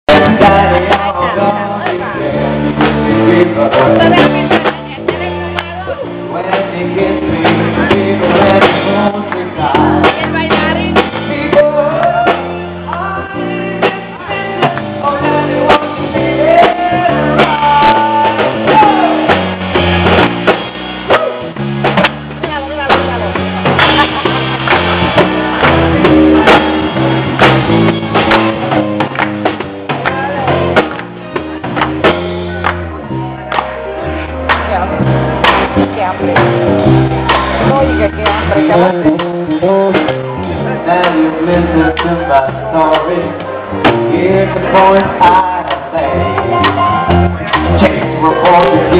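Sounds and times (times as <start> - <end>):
live band with keyboard and guitar: 0.0 - 48.9.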